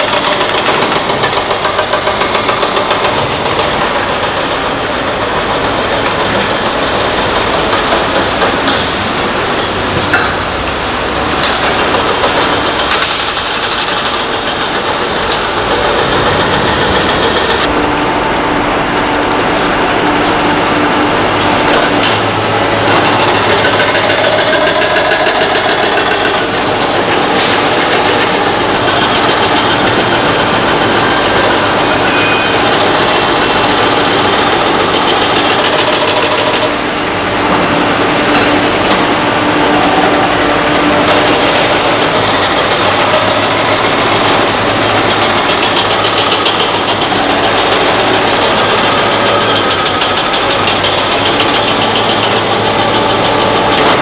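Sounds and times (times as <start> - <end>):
diesel engines running: 0.0 - 54.0
excavator working: 0.0 - 54.0.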